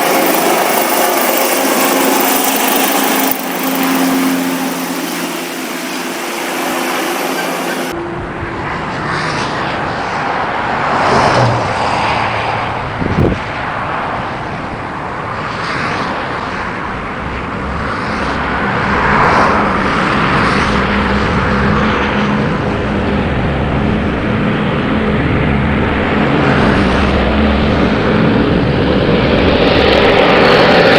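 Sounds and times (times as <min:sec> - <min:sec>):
light aircraft engine running: 0:00.0 - 0:30.9
wind and airflow noise: 0:00.0 - 0:30.9.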